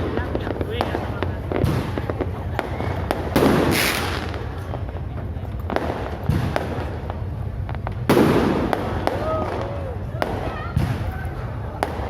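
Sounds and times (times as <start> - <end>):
fireworks popping and crackling: 0.0 - 12.0
loud fireworks bangs: 0.0 - 12.0.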